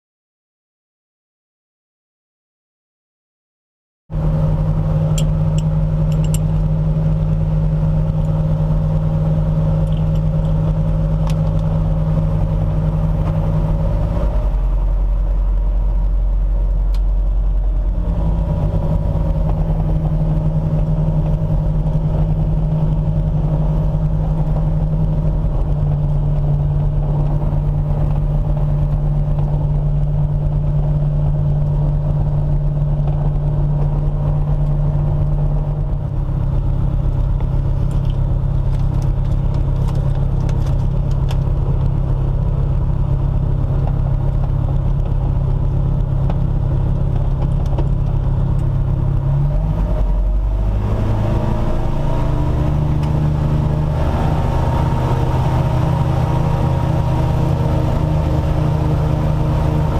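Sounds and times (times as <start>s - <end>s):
light aircraft engine running: 4.1s - 59.9s.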